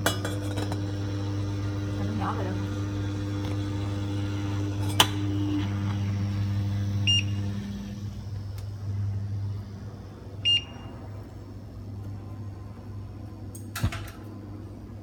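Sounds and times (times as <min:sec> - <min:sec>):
high tone over hum: 0:00.0 - 0:13.5
induction hob humming: 0:00.0 - 0:15.0.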